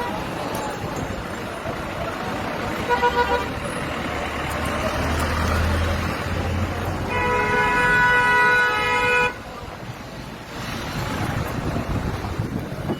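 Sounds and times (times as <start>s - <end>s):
street traffic: 0.0s - 12.9s.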